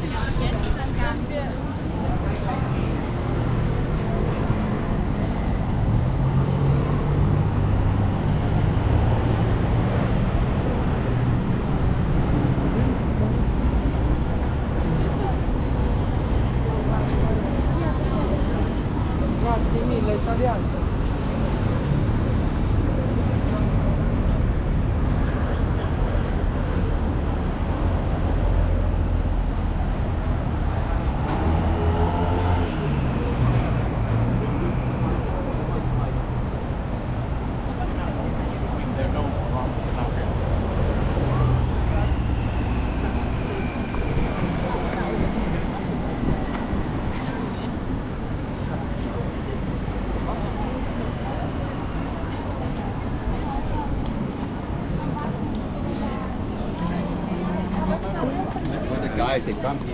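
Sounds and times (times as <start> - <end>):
low city rumble: 0.0 - 59.9
outdoor street noise: 0.0 - 59.9.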